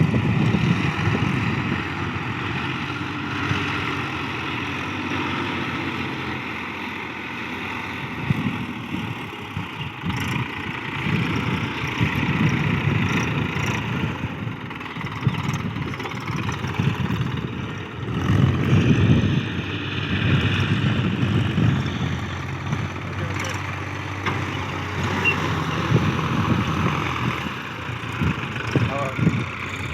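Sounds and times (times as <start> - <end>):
tractor engine working: 0.0 - 29.9.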